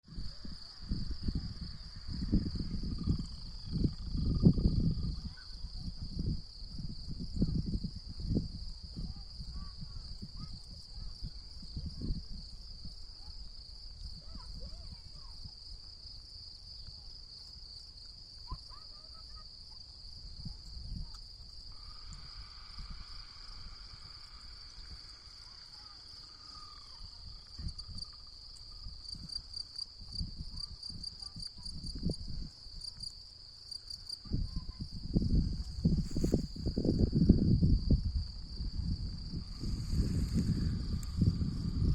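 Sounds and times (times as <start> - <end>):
low rumbling wind gusts: 0.0 - 17.3, 20.0 - 33.1, 33.8 - 41.9
crickets chirring: 0.1 - 41.9.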